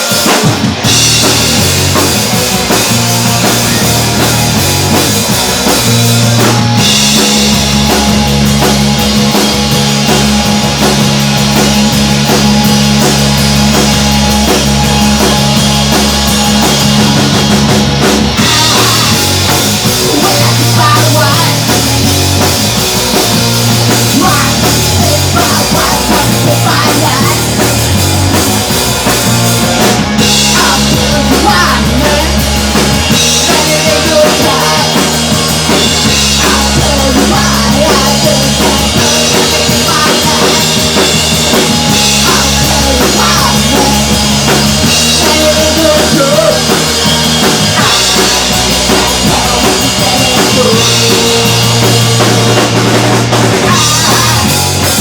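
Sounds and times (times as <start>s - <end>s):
pounding drum kit: 0.0s - 55.0s
punk rock band playing: 0.0s - 55.0s.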